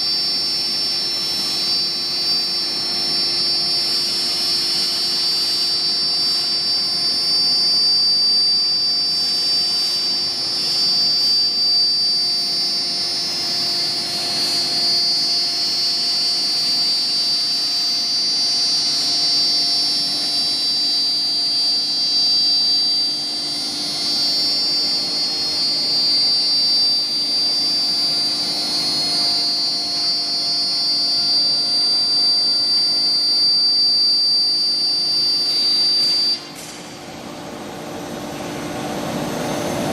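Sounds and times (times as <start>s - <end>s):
cnc router whine: 0.0s - 39.9s.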